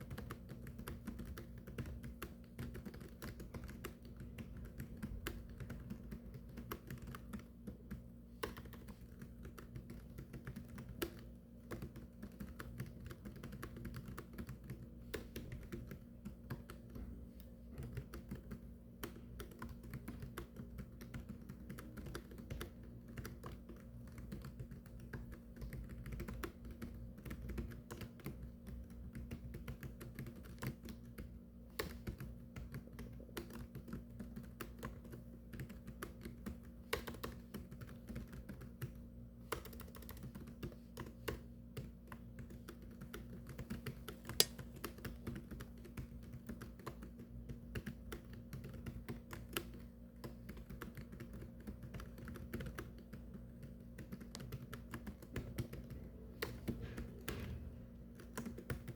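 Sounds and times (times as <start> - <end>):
faint low hum: 0.0 - 58.9
fast typing on keyboard: 0.0 - 58.9.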